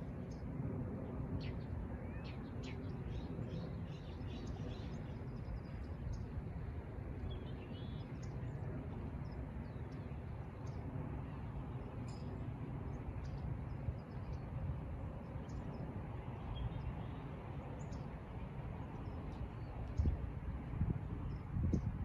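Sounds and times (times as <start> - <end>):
songbirds chirping: 0.3 - 6.4, 7.2 - 20.4.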